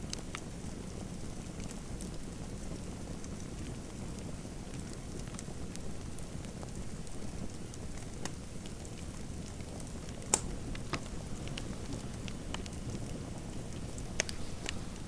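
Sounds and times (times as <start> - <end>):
fire popping: 0.0 - 15.0
fireplace fire crackling: 0.0 - 15.0.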